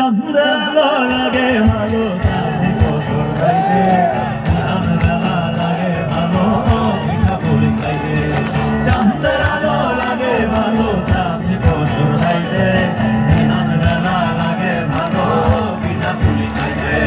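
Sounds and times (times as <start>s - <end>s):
guitar: 0.0s - 17.0s
steady drum beat: 1.2s - 17.0s.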